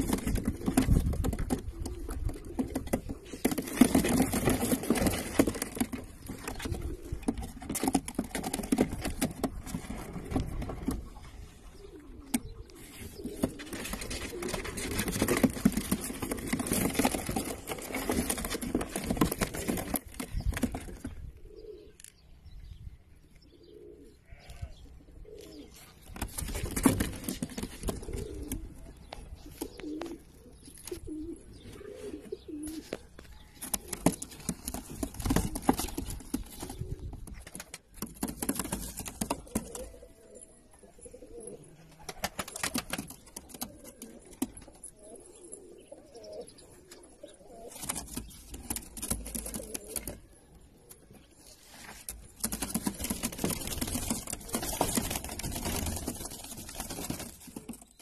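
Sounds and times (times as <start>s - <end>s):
pigeons cooing: 0.0s - 22.2s, 23.3s - 58.0s.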